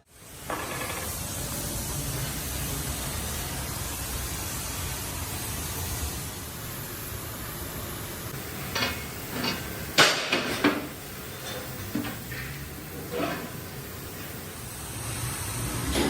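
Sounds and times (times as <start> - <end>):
steady workshop hiss: 0.0 - 16.0.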